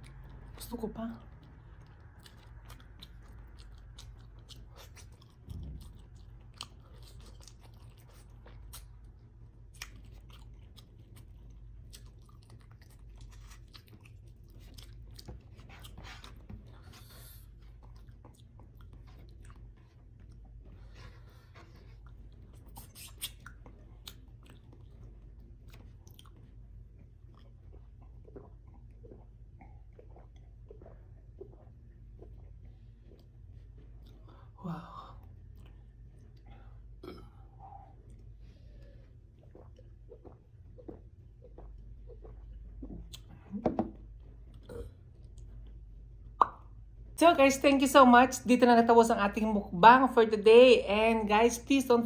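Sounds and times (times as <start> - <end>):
soft chewing with wet smacks: 0.0 - 47.2
steady low hum: 0.0 - 52.0.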